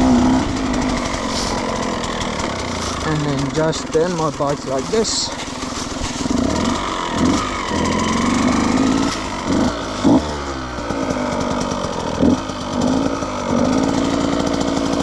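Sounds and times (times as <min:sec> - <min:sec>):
dirt bike engine blipping: 0:00.0 - 0:15.0.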